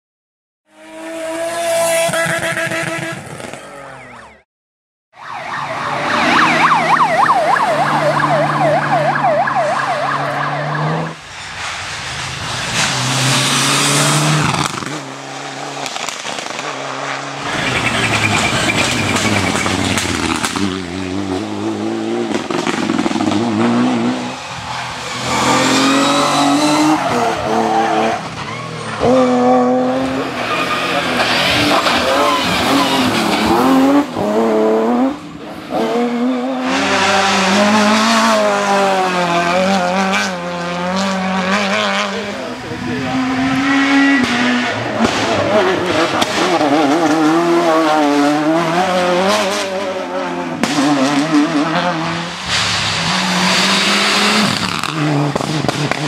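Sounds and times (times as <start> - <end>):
rally car engines revving: 0.7 - 4.2, 5.6 - 56.0.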